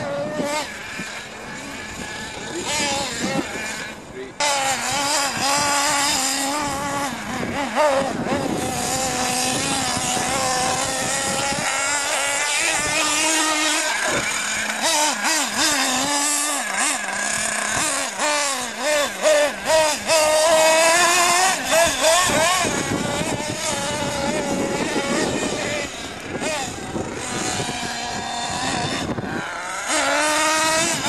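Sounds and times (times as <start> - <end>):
nitro engine buzzing and revving: 0.0 - 31.0.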